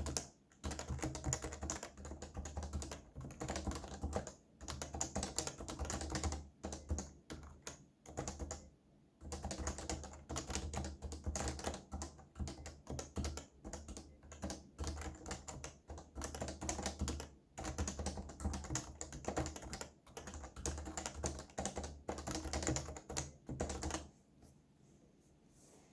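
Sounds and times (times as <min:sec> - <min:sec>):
fast typing on keyboard: 0:00.0 - 0:24.1.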